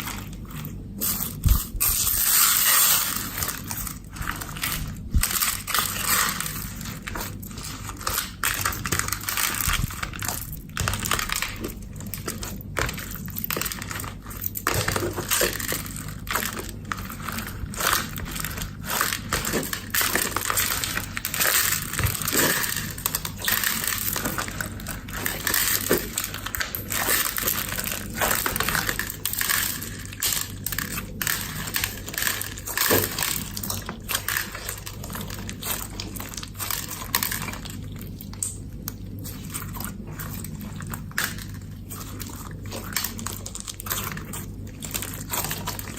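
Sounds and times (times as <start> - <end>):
slime crackling and squishing: 0.0 - 45.9.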